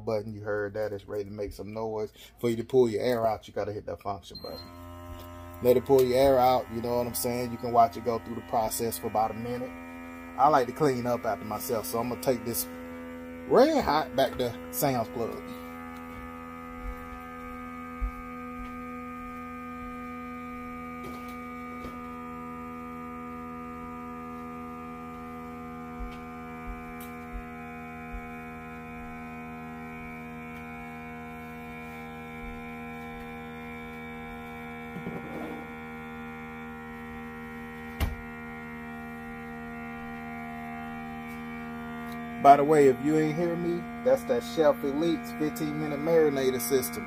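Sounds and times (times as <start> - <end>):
vacuum pump humming: 4.3 - 47.0.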